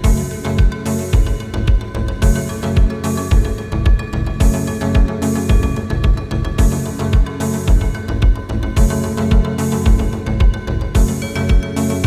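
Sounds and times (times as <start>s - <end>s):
music with steady bass beat: 0.0s - 12.0s.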